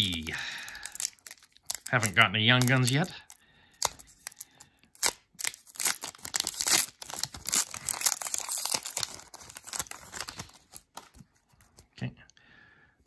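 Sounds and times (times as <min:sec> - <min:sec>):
foil wrapper crinkling and ripping: 0:00.0 - 0:11.8.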